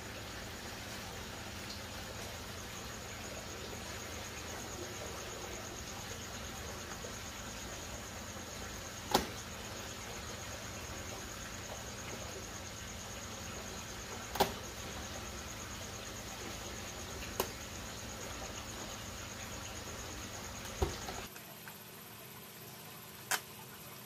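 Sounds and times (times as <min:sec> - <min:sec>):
insect trilling: 0:00.0 - 0:21.9
water pouring from a pipe: 0:00.0 - 0:24.0.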